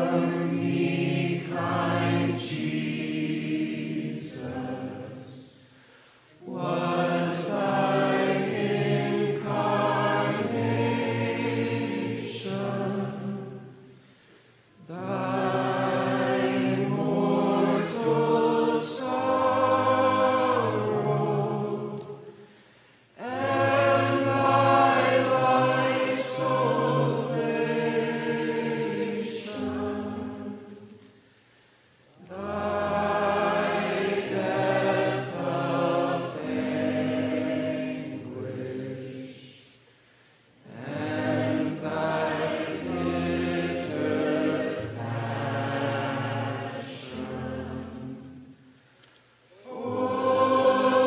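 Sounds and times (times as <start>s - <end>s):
choir singing slowly: 0.0s - 51.0s.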